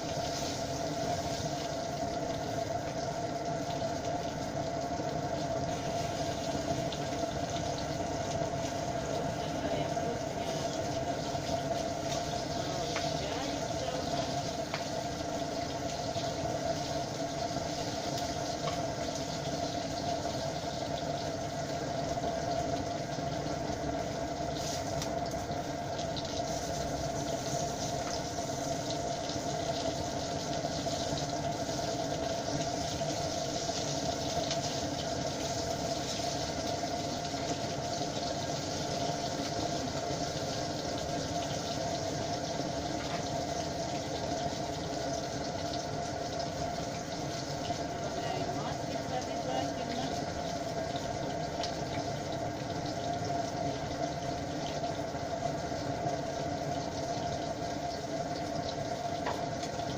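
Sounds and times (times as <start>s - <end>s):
fish frying in oil: 0.0s - 59.9s
mechanical hum: 0.0s - 59.9s.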